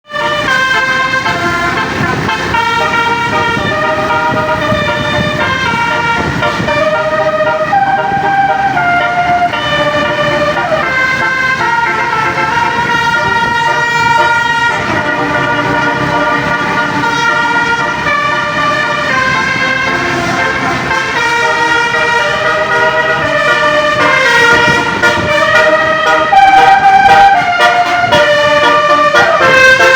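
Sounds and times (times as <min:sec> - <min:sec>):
multi-tone bus horn melody: 0:00.0 - 0:29.9.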